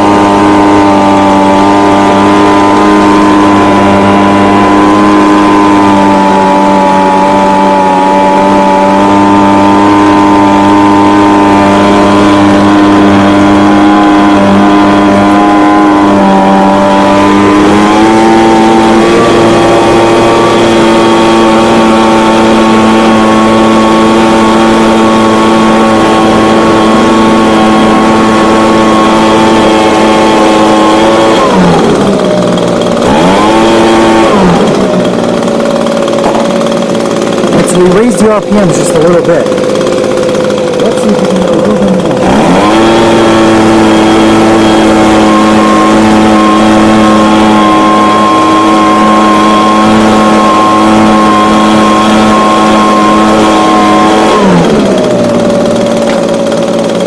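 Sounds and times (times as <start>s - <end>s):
small two-stroke engine running: 0.0s - 57.0s.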